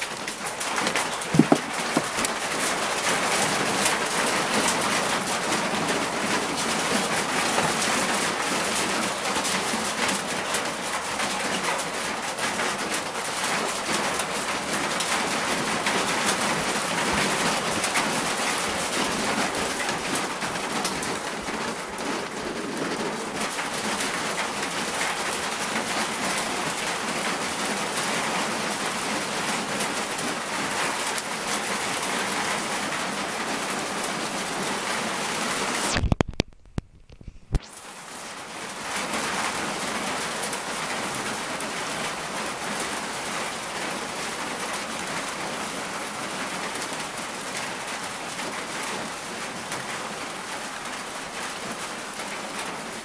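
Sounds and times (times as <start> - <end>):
heavy rain hissing: 0.0 - 36.6, 37.2 - 53.0.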